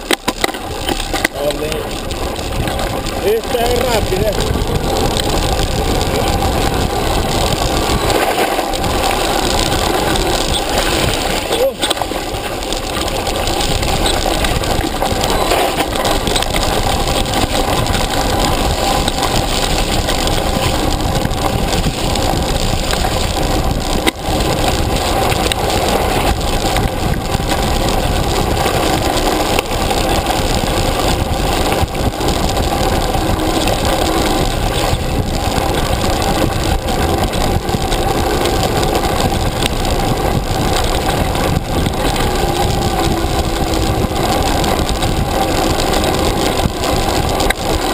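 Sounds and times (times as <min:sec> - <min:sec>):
bike rattling over ground: 0:00.0 - 0:47.9
wind rush on microphone: 0:00.0 - 0:47.9.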